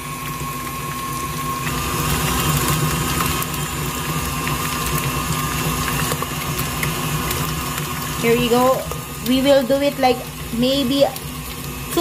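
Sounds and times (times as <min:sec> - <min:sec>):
stand mixer whipping butter: 0:00.0 - 0:12.0.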